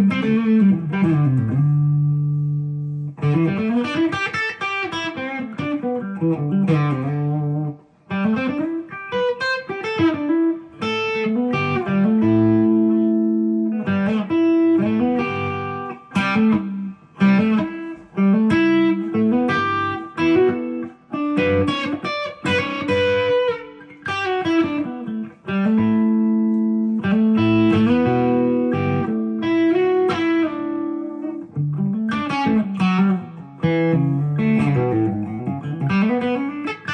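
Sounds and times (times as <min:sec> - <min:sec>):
electric guitar playing: 0:00.0 - 0:36.9.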